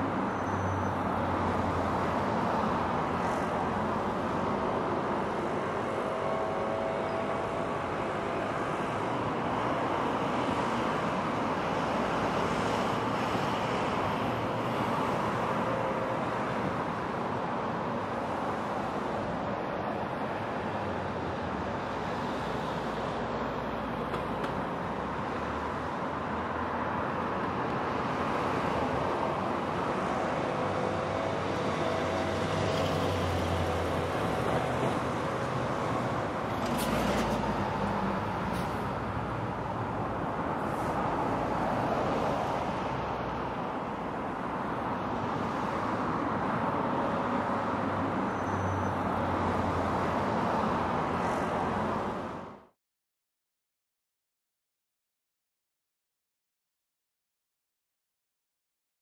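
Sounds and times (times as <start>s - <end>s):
traffic hum: 0.0s - 52.7s.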